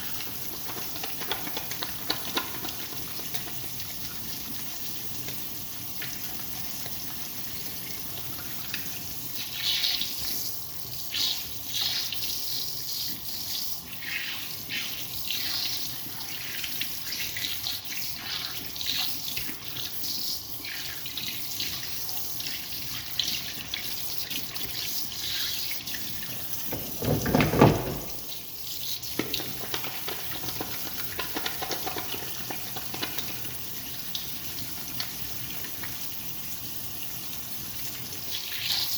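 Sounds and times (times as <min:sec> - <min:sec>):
liquid trickling into toilet water: 0:00.0 - 0:12.4, 0:13.8 - 0:38.9.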